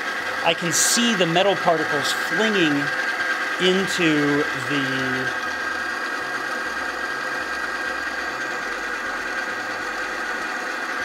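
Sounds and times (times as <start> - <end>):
machine high-pitched whine: 0.0 - 11.0
motor low hum: 0.0 - 11.0.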